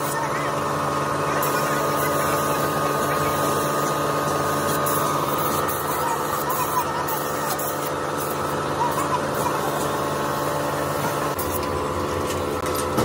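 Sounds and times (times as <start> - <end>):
paint spray gun hissing: 0.0 - 11.7
machine drone: 0.0 - 13.0.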